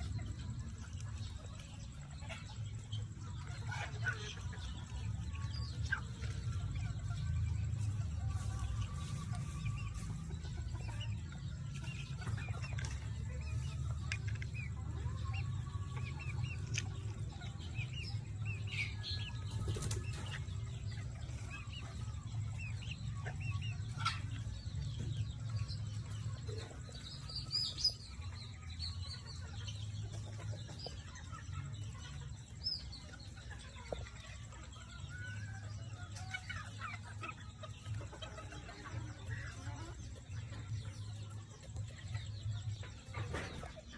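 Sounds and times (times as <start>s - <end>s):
chickens clucking and chirping: 0.0s - 43.9s.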